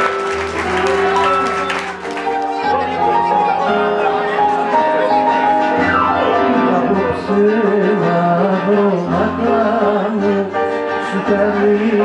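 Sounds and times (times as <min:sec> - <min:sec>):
bouzouki and keyboard music: 0:00.0 - 0:12.0.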